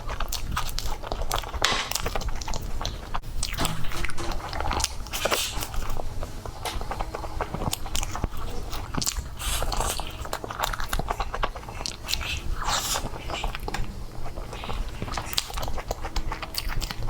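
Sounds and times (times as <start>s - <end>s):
biting and chewing: 0.0s - 17.0s.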